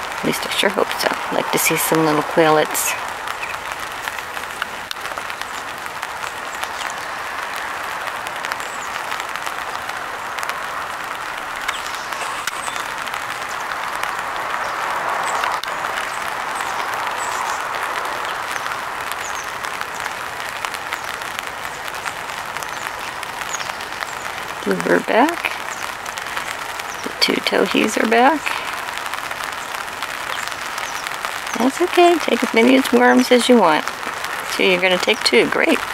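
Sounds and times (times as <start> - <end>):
rain pattering on an umbrella: 0.0 - 35.9.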